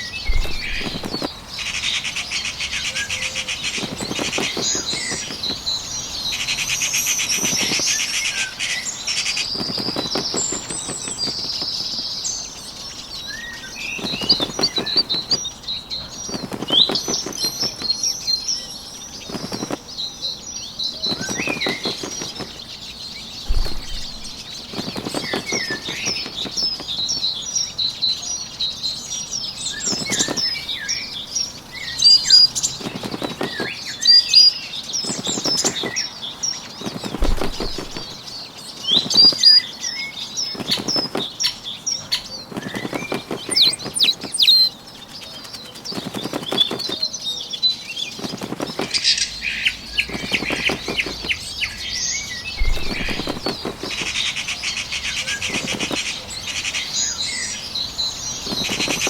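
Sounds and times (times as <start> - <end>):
bird wings fluttering: 0.0 - 28.6, 29.4 - 59.0
birds chirping: 0.0 - 59.0.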